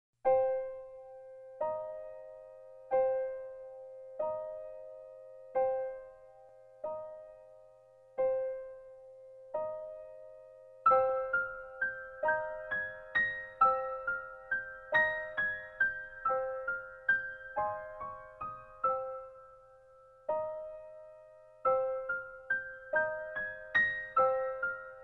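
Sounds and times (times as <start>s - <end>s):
slow solo piano: 0.2s - 25.0s.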